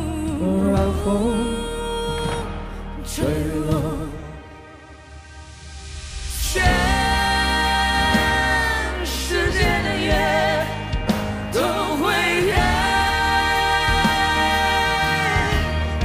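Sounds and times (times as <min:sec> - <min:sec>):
band with deep bass: 0:00.0 - 0:04.4, 0:05.9 - 0:16.0
woman and man singing duet: 0:00.0 - 0:04.6, 0:06.4 - 0:16.0.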